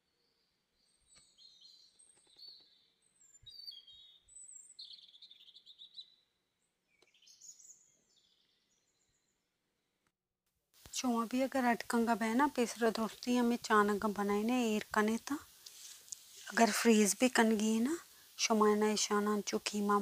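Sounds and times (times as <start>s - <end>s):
small birds chirping: 0.0s - 9.4s, 10.9s - 20.0s.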